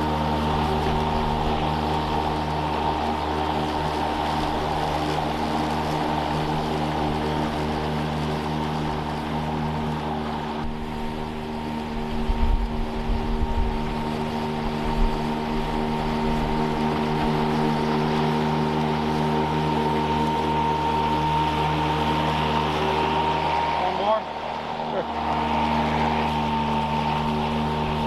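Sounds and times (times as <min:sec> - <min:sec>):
lawn mower running: 0:00.0 - 0:28.0.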